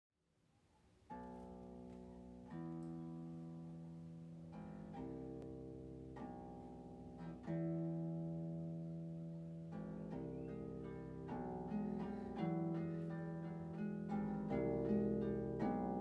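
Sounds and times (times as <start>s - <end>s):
harp playing low chords: 1.1s - 16.0s.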